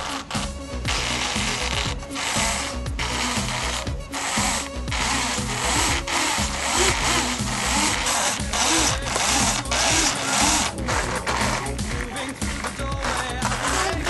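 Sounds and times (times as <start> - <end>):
rc plane motor whirring: 0.0 - 14.0.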